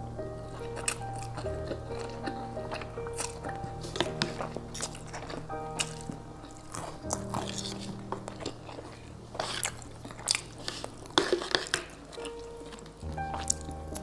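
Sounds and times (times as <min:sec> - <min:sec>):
chewing and crunching: 0:00.0 - 0:14.0
soft background music: 0:00.0 - 0:14.0.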